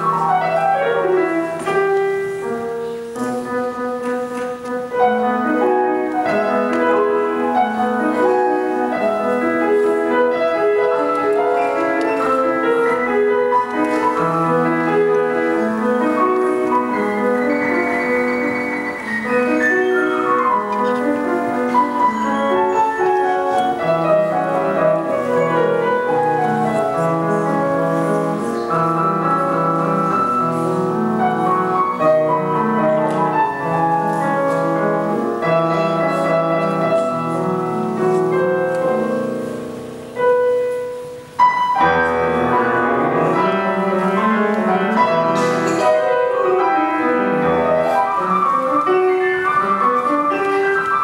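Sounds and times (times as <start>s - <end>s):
solo classical piano: 0.0s - 51.0s.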